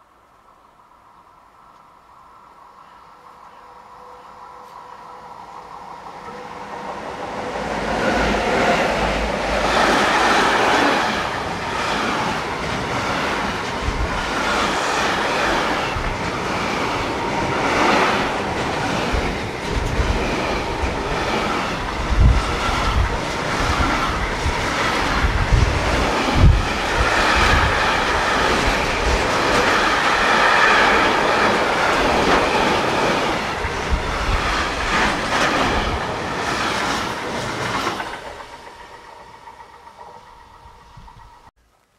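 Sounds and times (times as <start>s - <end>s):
freight train passing: 0.0s - 41.5s.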